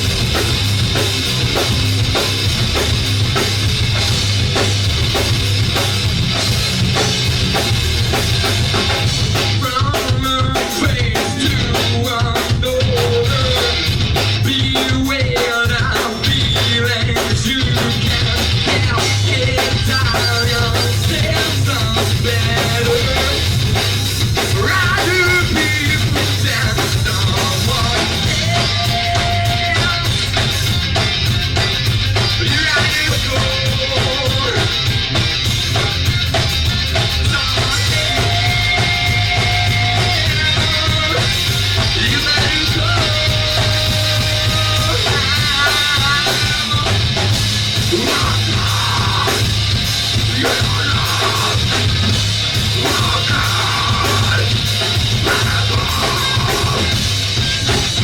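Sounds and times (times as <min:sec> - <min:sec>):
rock band playing loud: 0:00.0 - 0:58.0.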